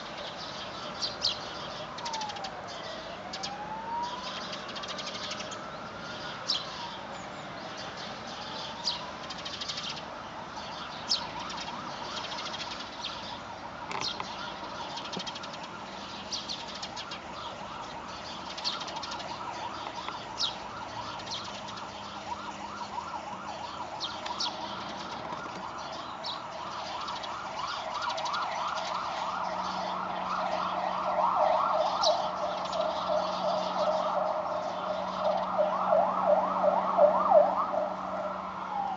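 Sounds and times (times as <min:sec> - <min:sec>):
emergency vehicle siren: 0:00.0 - 0:38.9.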